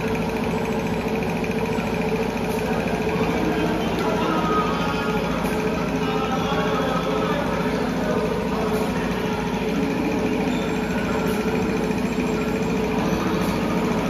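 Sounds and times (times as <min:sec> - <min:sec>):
kitchen machinery droning: 0:00.0 - 0:14.0.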